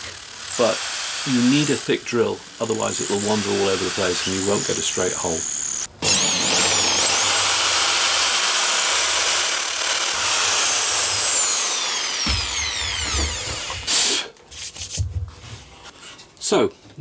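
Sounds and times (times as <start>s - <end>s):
electric drill motor whine: 0.0s - 14.2s.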